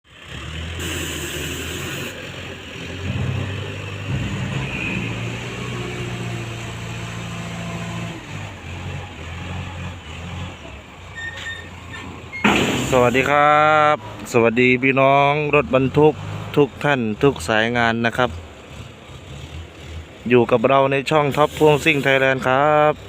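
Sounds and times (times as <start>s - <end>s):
heavy vehicle engine revving: 0.0s - 23.0s.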